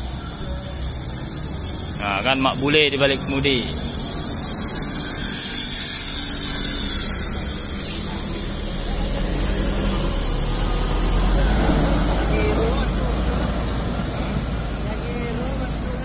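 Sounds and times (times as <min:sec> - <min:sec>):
steady high hiss: 0:00.0 - 0:15.4
bus engine rumble: 0:00.0 - 0:16.0.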